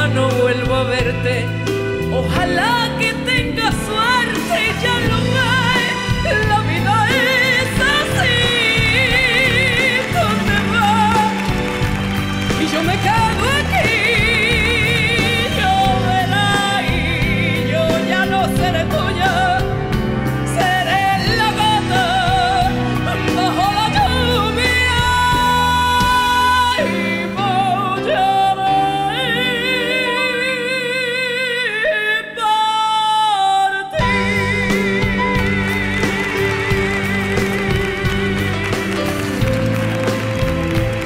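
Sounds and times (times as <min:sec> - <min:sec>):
woman singing a ballad: 0:00.0 - 0:39.5
live band playing: 0:00.0 - 0:41.0.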